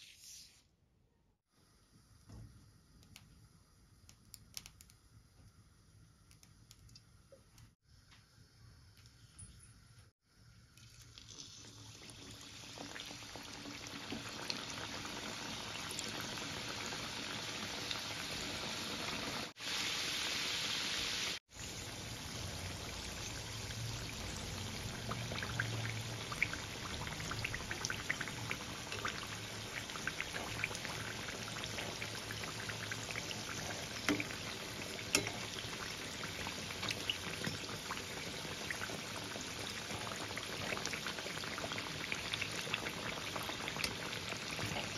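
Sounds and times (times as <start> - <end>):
hot oil sizzling and popping: 1.8 - 9.3, 10.2 - 44.9.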